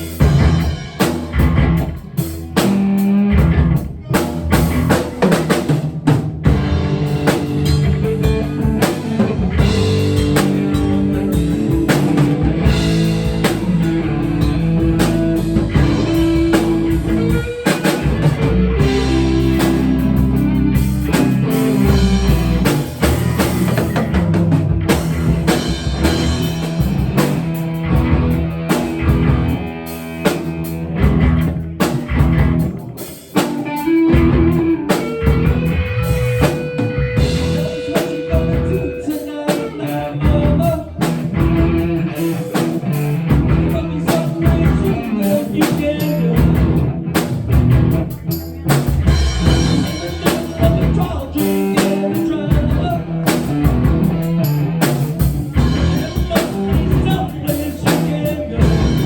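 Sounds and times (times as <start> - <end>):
rock music with drums and guitar: 0.0 - 59.0.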